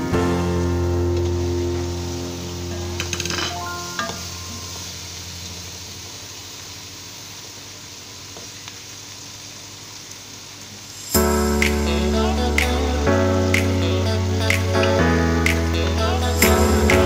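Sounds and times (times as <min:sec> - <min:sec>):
fish sizzling in a pot: 0:00.0 - 0:17.0.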